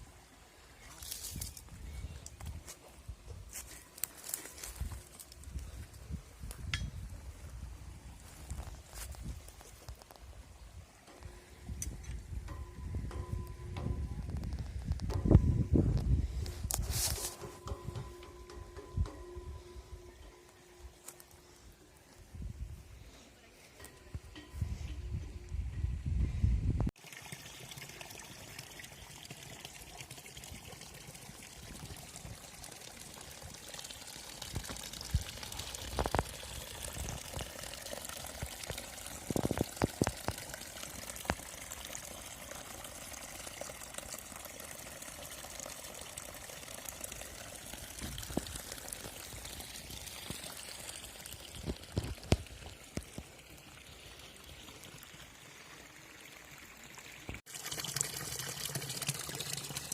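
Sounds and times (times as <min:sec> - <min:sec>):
water pouring and splashing: 0:00.0 - 0:19.3, 0:26.9 - 0:59.9.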